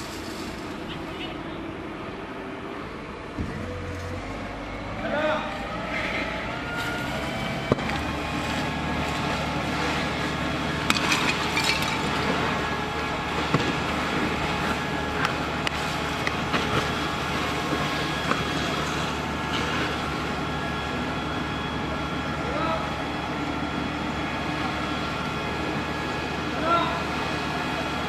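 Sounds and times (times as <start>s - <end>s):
fire engine running: 0.0s - 28.0s.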